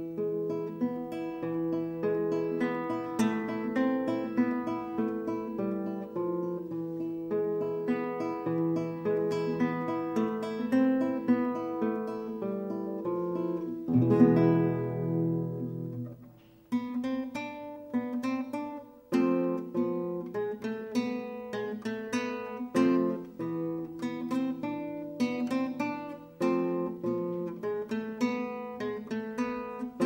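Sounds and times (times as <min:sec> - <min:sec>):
classical guitar fingerstyle: 0:00.0 - 0:30.0.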